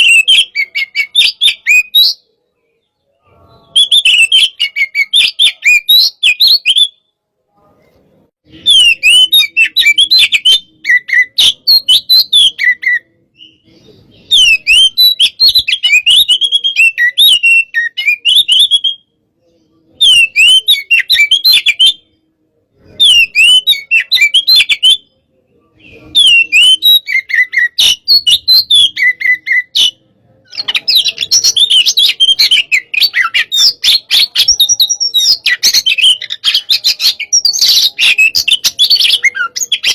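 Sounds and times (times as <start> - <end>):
bird singing whistled notes: 0.0 - 7.1, 8.5 - 22.2, 22.9 - 39.9.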